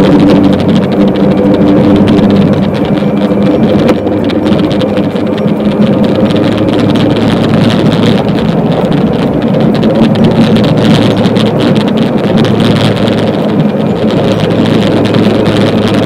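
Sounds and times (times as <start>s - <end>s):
golf cart motor hum: 0.0s - 16.0s
rattling: 0.0s - 16.0s
tyre noise: 0.0s - 16.0s
wind noise: 0.0s - 16.0s.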